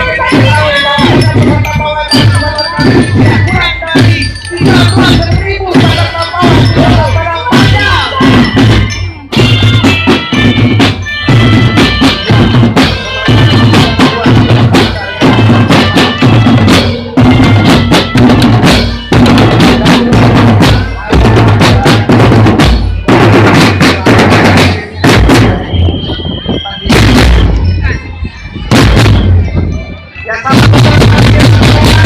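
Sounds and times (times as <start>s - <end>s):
bass and snare drums beating: 0.0s - 28.0s, 28.7s - 29.8s, 30.5s - 32.0s
high melodic line: 0.0s - 32.0s.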